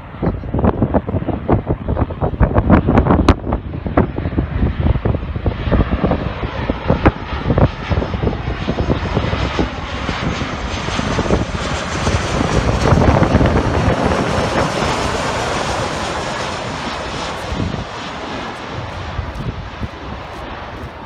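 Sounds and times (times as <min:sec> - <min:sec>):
jet airliner passing overhead: 0:00.0 - 0:21.0
wind thumps on microphone: 0:00.2 - 0:21.0.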